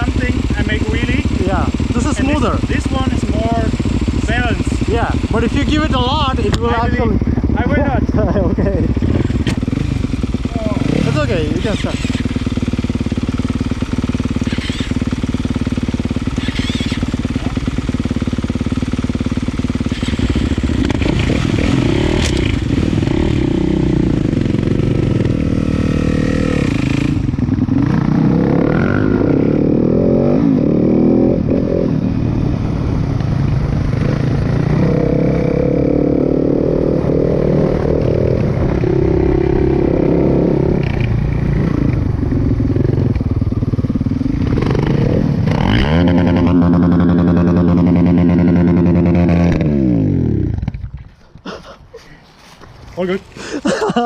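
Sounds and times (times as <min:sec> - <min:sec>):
dirt bike engine revving: 0:00.0 - 0:51.3.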